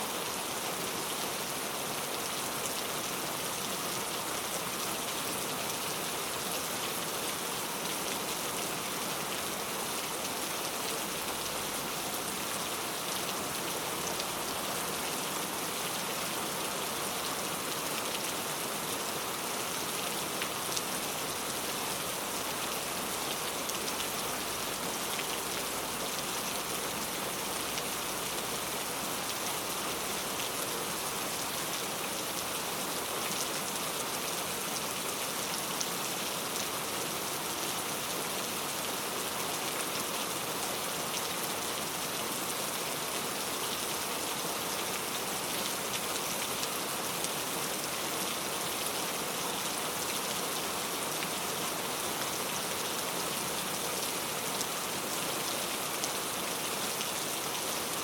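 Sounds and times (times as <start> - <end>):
rain pattering on surface: 0.2 - 58.0.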